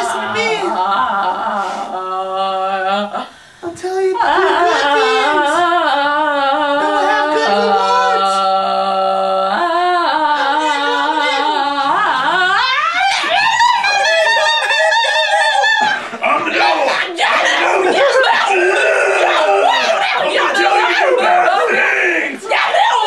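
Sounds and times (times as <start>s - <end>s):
person singing wordlessly: 0.0s - 23.0s.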